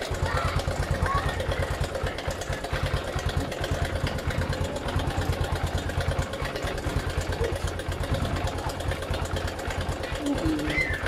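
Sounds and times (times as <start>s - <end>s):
light ticking clatter: 0.0s - 11.0s
motorcycle engine idling: 0.0s - 11.0s.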